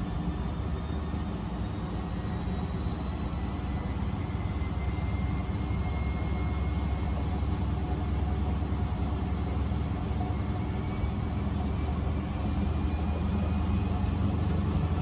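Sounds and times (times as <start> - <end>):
faint motor whine: 0.0 - 15.0.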